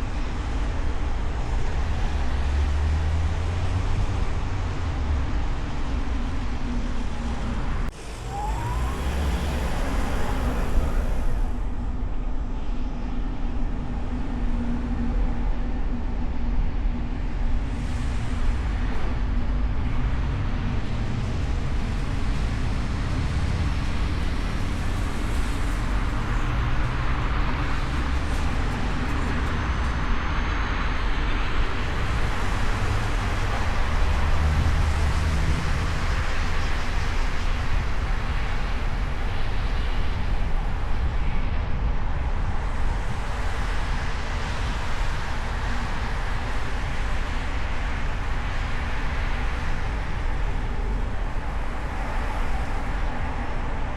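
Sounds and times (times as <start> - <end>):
car engine and tyre rumble: 0.0 - 53.9
passing traffic: 0.0 - 53.9.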